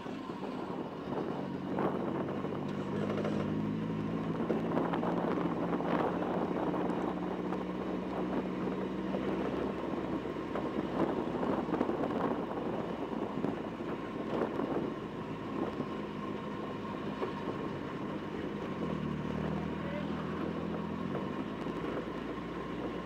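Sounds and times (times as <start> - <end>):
car engine at low revs: 0.0 - 23.0.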